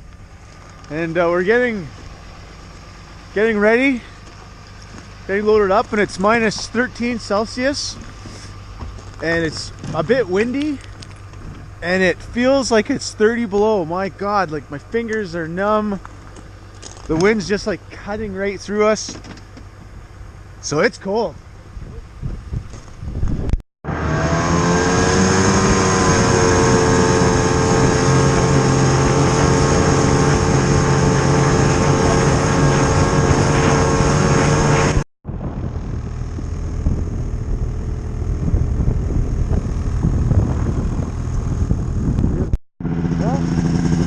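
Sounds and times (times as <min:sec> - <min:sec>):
snowmobile engine running: 0:00.0 - 0:16.0, 0:16.8 - 0:19.1, 0:23.9 - 0:44.0
rough noisy engine: 0:00.0 - 0:44.0.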